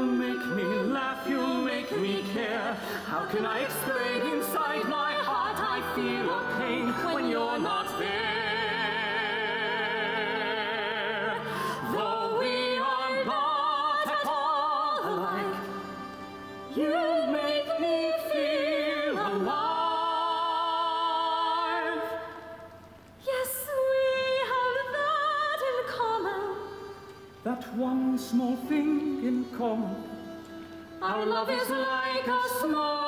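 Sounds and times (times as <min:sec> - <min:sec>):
operatic stage singing: 0:00.0 - 0:33.0.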